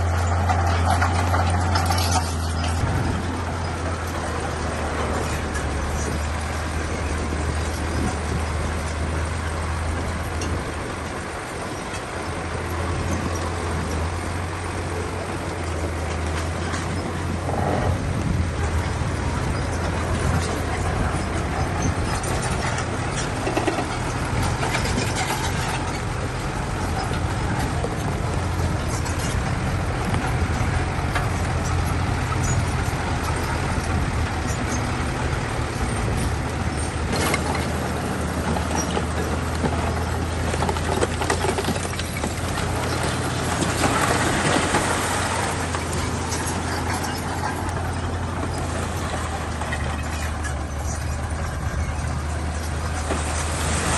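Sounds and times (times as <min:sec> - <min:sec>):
bulldozer diesel engine: 0:00.0 - 0:53.9
rough grinding noise: 0:00.0 - 0:53.9.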